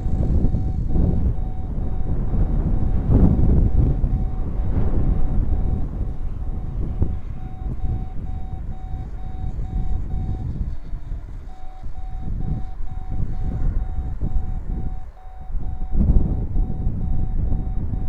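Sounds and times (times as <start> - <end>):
faint high pulsing beep: 0.0 - 18.0
wind buffeting microphone: 0.0 - 18.0.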